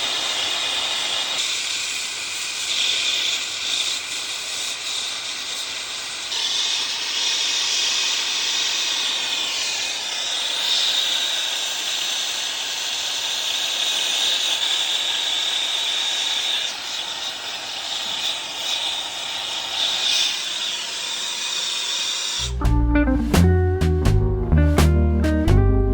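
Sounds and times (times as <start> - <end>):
torch flame hissing: 0.0 - 22.6.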